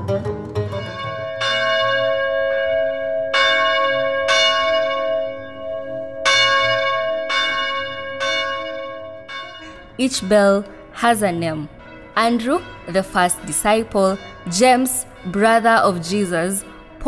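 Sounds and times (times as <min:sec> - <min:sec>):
church bell ringing: 0:00.6 - 0:17.0.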